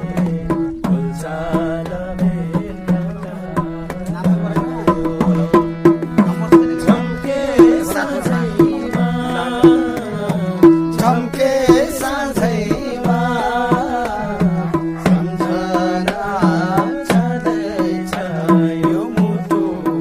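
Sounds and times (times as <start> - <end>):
tuned hand drums beat: 0.0 - 20.0.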